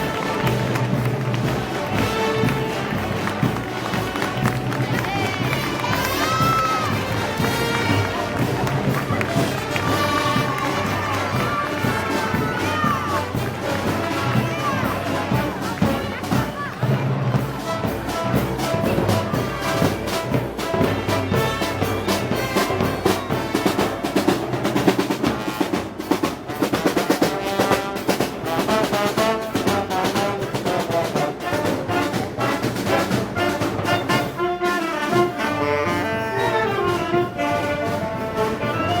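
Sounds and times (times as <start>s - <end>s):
brass band playing: 0.0s - 39.0s
percussion beat: 0.0s - 39.0s.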